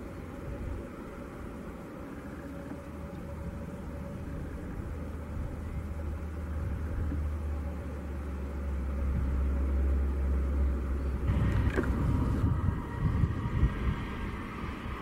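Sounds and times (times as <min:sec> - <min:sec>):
propeller plane engines droning: 0:00.0 - 0:15.0.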